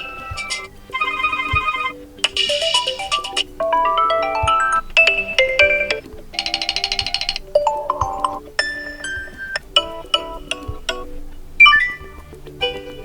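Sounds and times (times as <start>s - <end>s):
fast pulsing trill: 0.0s - 12.8s
electronic ringtone melodies: 0.0s - 13.0s.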